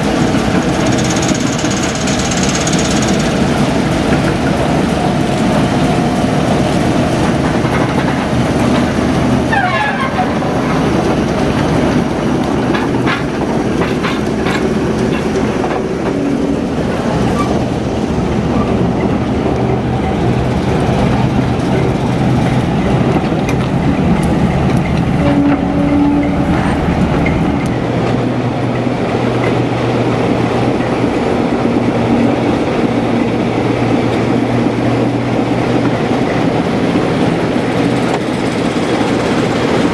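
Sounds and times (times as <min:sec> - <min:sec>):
diesel locomotive engine throbbing: 0:00.0 - 0:39.9
wheel and track clicks: 0:00.0 - 0:39.9.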